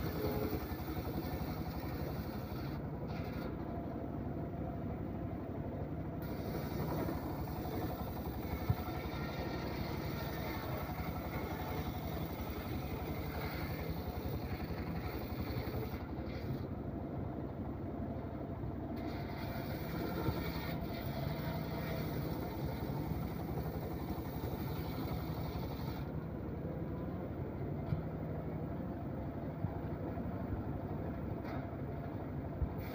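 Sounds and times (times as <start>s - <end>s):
engine-driven sawmill running: 0.0s - 32.9s.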